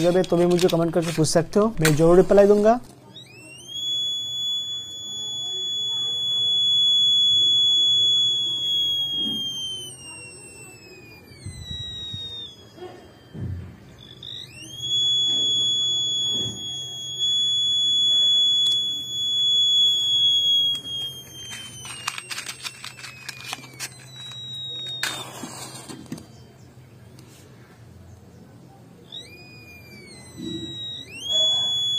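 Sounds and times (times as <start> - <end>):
crackling clicks: 0.0 - 26.4, 29.1 - 31.9
buzzer high beep: 3.1 - 26.5, 29.1 - 31.9.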